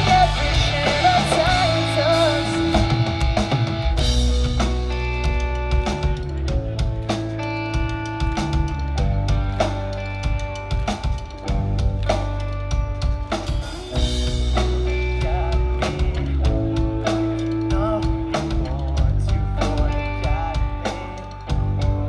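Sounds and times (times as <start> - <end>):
drum kit: 0.0 - 22.0
live rock band playing: 0.0 - 22.0.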